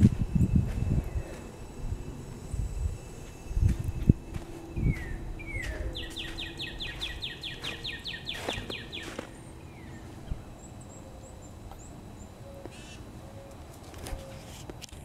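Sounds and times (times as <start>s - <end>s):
songbird trilling: 0.4s - 13.6s.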